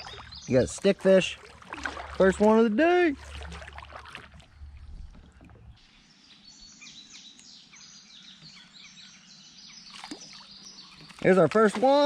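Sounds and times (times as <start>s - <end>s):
birds chirping: 0.0s - 3.6s, 4.4s - 12.0s.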